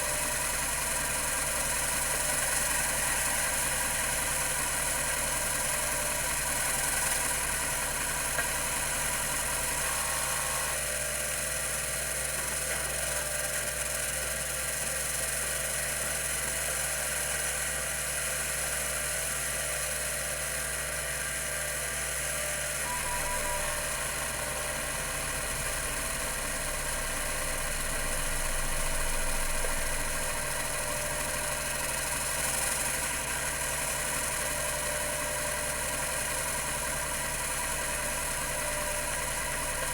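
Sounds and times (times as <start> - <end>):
hard drive motor hum and whine: 0.0 - 39.9.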